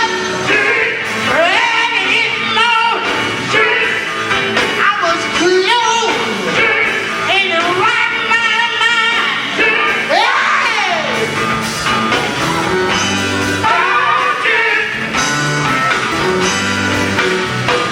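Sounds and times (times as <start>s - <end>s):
gospel group singing: 0.0s - 11.5s, 12.4s - 17.9s.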